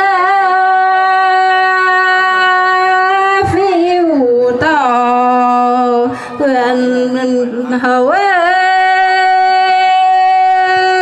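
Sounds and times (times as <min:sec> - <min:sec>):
person singing folk song: 0:00.0 - 0:11.0.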